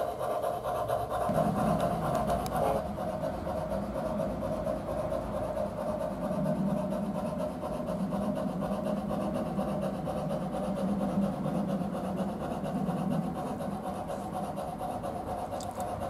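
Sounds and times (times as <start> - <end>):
model steam locomotive chuffing: 0.0 - 16.0.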